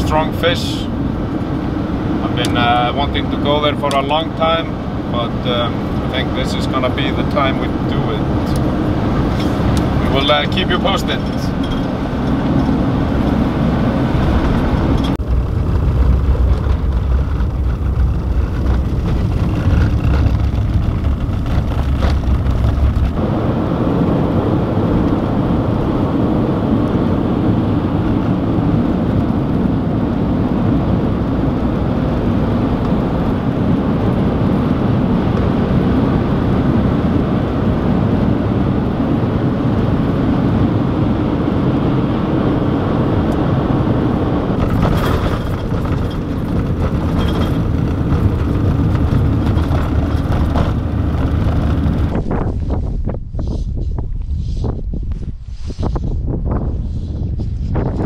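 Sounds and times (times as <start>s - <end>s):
road and engine noise in cab: 0.0s - 55.2s.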